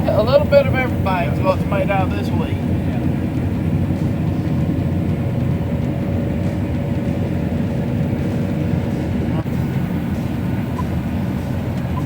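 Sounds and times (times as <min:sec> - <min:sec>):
combine harvester droning: 0:00.0 - 0:12.0
faint machinery whine: 0:00.0 - 0:12.0.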